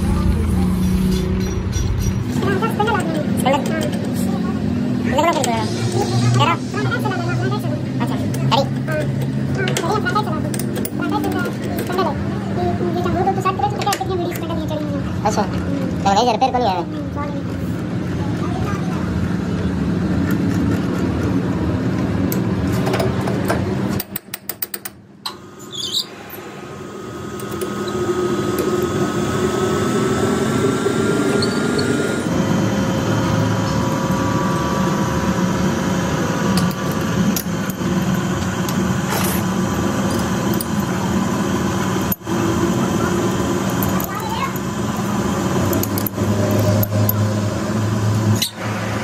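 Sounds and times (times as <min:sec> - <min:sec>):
machine humming: 0:00.0 - 0:23.9, 0:25.2 - 0:49.0.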